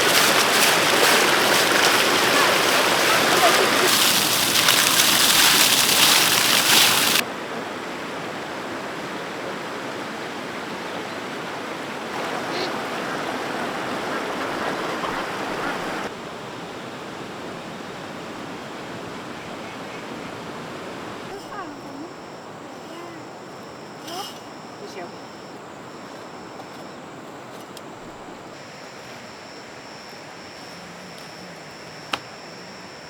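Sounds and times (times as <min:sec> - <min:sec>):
running water rushing: 0:00.0 - 0:27.2.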